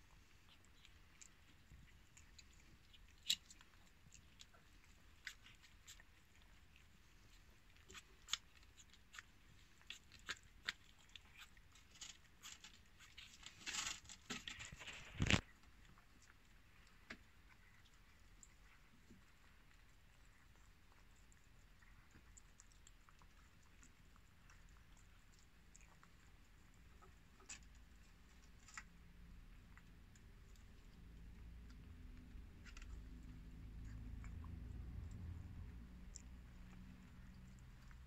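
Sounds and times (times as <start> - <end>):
cats chewing: 0.0 - 38.0.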